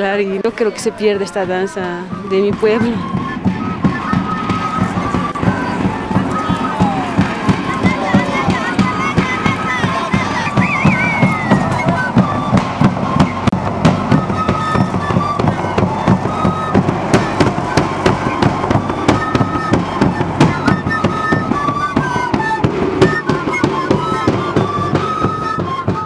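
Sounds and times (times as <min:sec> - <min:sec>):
flutes playing a melody: 0:00.0 - 0:26.0
sharp drum beats: 0:00.6 - 0:26.0.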